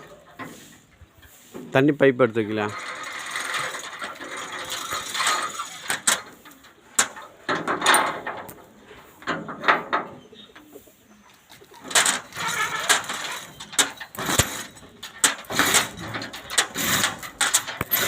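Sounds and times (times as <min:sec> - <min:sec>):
metal clanking and rattling: 0:02.4 - 0:10.7, 0:11.5 - 0:18.0.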